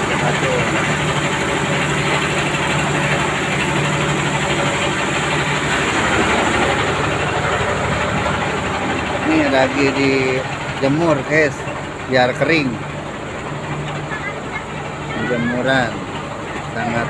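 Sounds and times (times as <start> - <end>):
fast low pulsing: 0.0 - 17.0
mill machinery din: 0.0 - 17.0.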